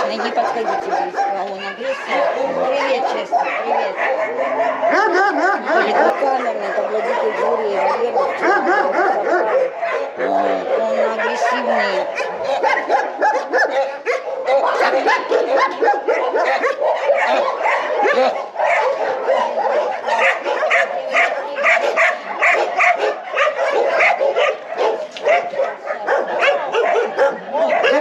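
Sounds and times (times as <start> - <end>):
dogs barking and yelping: 0.0 - 28.0.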